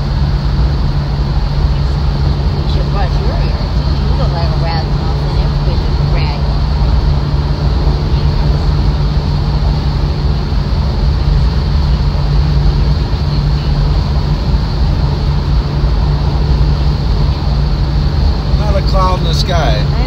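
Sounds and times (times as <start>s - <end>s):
car cabin engine and road noise: 0.0s - 20.0s.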